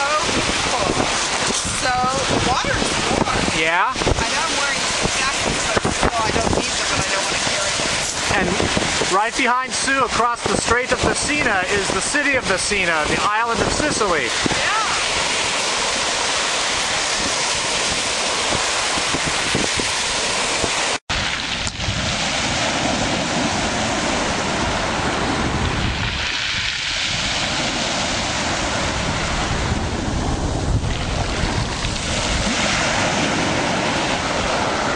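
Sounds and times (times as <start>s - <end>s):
sea waves breaking on shore: 0.0s - 34.9s
wind buffeting microphone: 0.0s - 34.9s.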